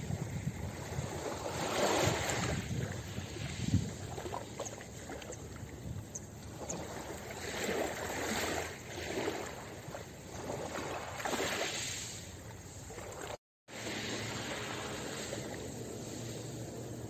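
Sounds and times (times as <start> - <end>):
waves washing over pebbles: 0.0 - 4.6, 6.8 - 17.0.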